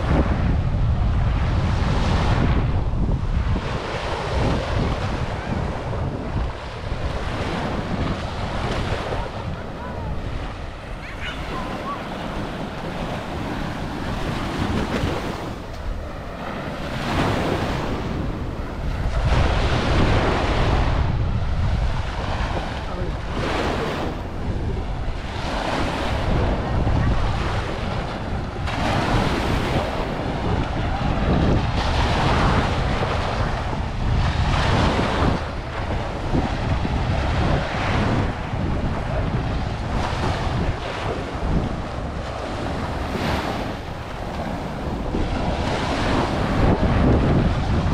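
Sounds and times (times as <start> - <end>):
small waves breaking on sand: 0.0 - 47.9
wind rumble on microphone: 0.0 - 47.9.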